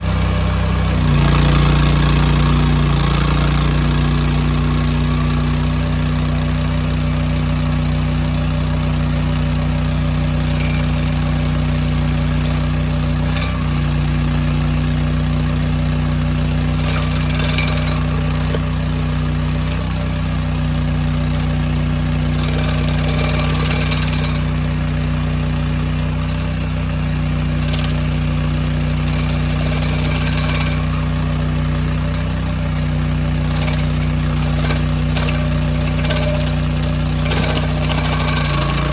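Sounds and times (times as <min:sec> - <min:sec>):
engine and stump grinder running: 0:00.0 - 0:38.9.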